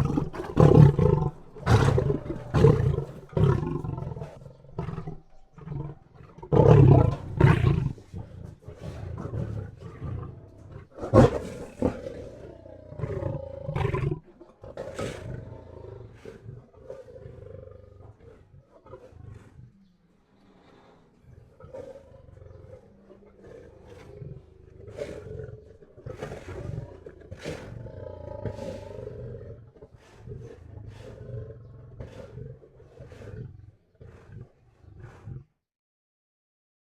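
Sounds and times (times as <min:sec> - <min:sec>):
lion roaring: 0:00.0 - 0:35.6.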